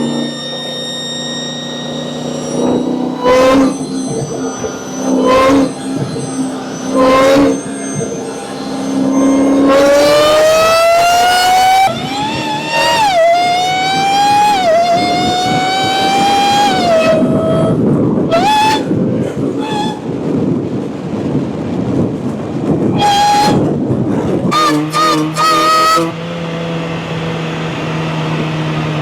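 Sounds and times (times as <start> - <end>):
car engine accelerating: 0.0 - 29.0
supercharger whine: 0.0 - 29.0.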